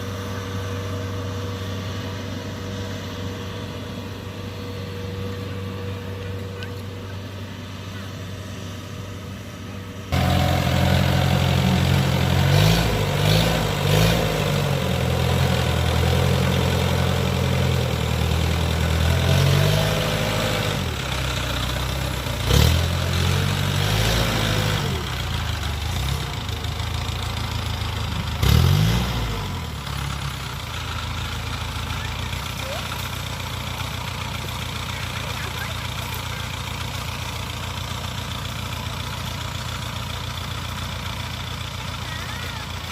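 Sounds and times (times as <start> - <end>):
diesel engine speed varying: 0.0 - 42.9.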